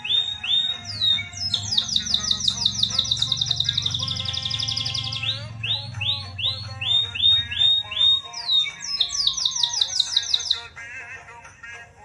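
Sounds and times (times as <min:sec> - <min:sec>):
canary singing: 0:00.0 - 0:11.9
quiet background music: 0:00.0 - 0:12.0.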